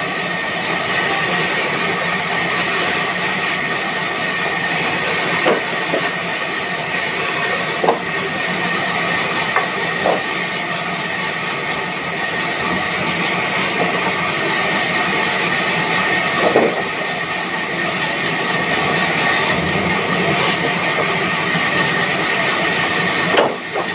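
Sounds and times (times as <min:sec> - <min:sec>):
high machine whine: 0:00.0 - 0:23.9
sawmill machinery running: 0:00.0 - 0:23.9.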